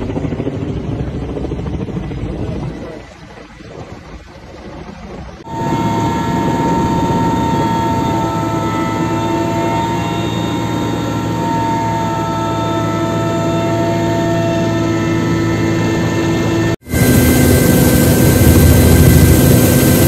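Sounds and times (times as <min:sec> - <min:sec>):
helicopter rotor drone: 0:00.0 - 0:20.0
helicopter turbine whine: 0:00.0 - 0:20.0.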